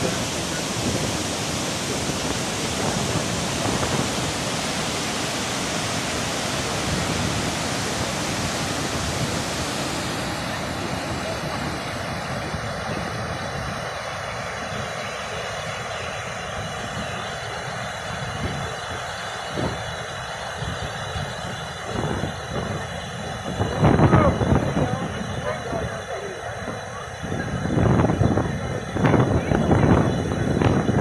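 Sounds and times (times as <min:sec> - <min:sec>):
waterfall roar: 0:00.0 - 0:31.0.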